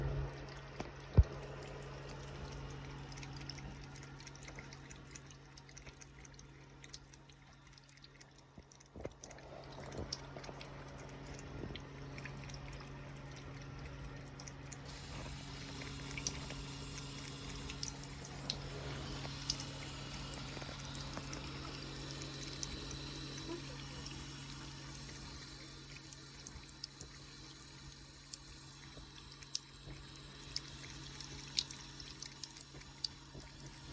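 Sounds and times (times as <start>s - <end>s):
cat lapping water: 0.0s - 33.9s
steady low hum: 0.0s - 33.9s
water trickling: 0.0s - 33.9s.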